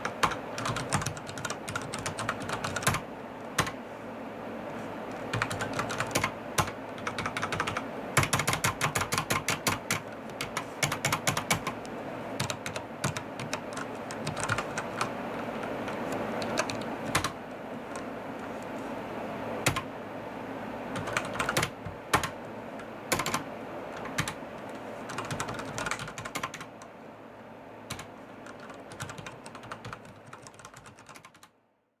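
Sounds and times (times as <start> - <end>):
mechanical keyboard typing: 0.0 - 3.0, 3.6 - 3.8, 5.1 - 18.1, 19.6 - 19.9, 21.0 - 26.8, 27.9 - 31.5.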